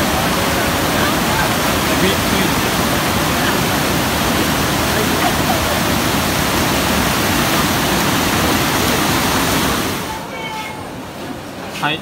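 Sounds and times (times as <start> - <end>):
river water rushing over slats: 0.0 - 11.6.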